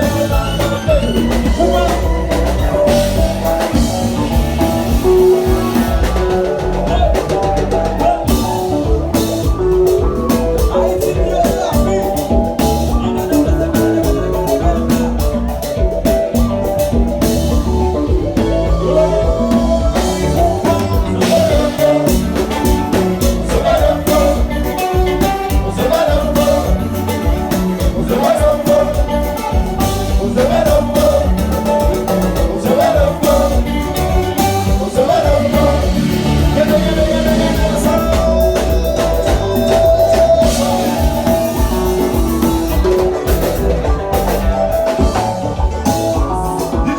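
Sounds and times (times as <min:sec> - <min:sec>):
bass: 0:00.0 - 0:46.9
drums: 0:00.0 - 0:46.9
guitar: 0:00.0 - 0:46.9
person singing: 0:00.0 - 0:46.9.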